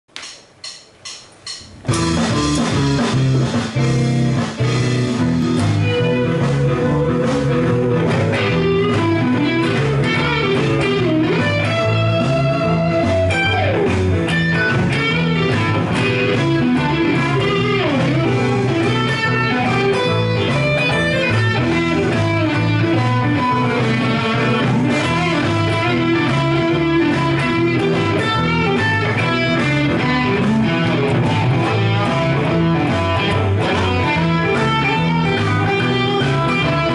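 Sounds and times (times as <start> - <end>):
electric guitar blues lead: 1.7 - 36.9.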